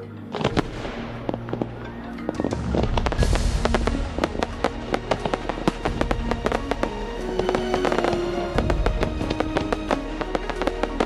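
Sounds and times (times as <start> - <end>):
music with steady bass: 0.0 - 11.0
fireworks crackling and popping: 0.3 - 11.0.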